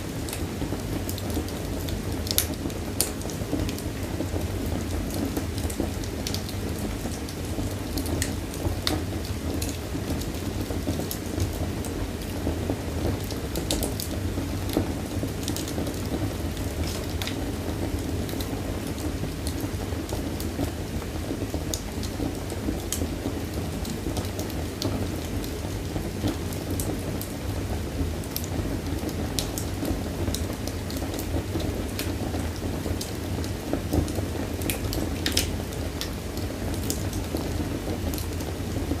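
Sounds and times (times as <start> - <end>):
low rumble of flames: 0.0 - 39.0
wood fire crackling: 0.0 - 39.0.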